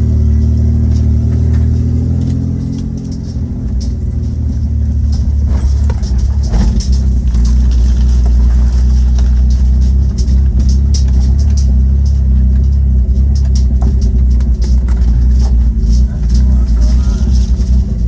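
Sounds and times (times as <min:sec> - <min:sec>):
knocks and rattles: 0:00.0 - 0:18.0
loud engine under load: 0:00.0 - 0:18.0.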